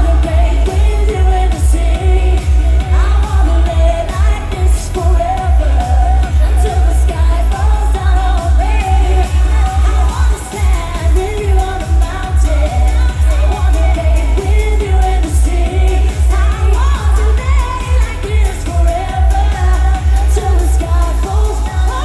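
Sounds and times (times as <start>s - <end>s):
dance pop music over loudspeakers: 0.0s - 22.0s.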